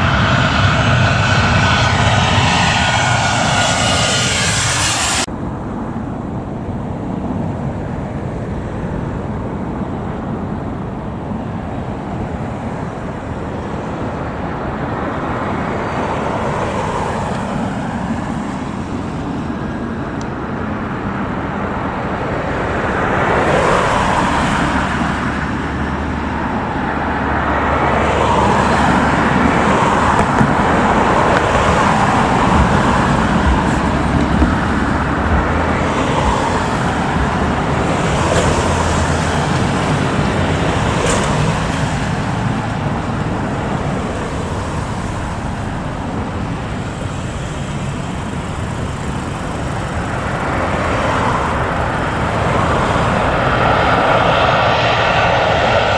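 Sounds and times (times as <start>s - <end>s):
cars passing: 0.0s - 55.9s.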